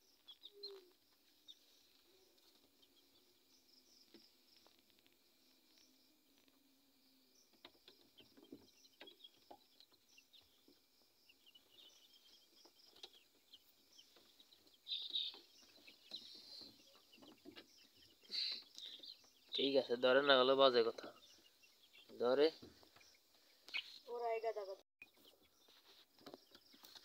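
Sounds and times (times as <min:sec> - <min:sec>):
chicks peeping and chirping: 0:00.0 - 0:27.0.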